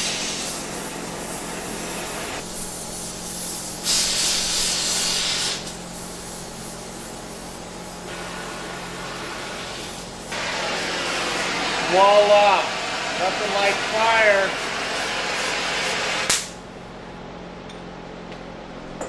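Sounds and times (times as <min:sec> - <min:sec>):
gas torch hissing: 0:00.0 - 0:16.7.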